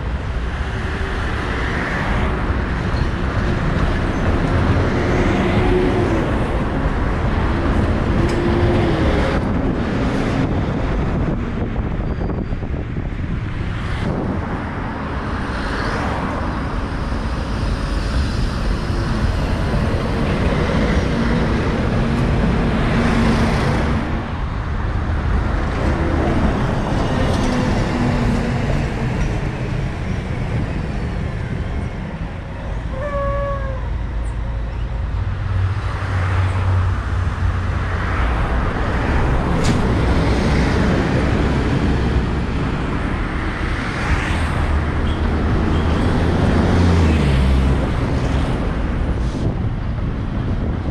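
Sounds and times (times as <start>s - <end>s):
bus engine hum: 0.0s - 50.9s
cars passing: 0.0s - 50.9s.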